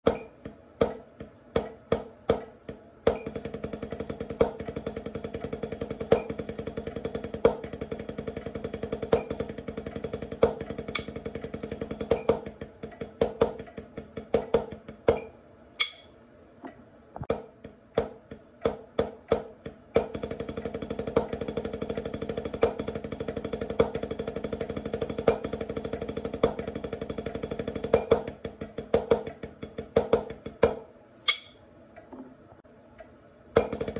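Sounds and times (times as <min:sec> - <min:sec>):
snare drum played with sticks: 0:01.6 - 0:15.2, 0:18.0 - 0:31.6, 0:33.6 - 0:33.9.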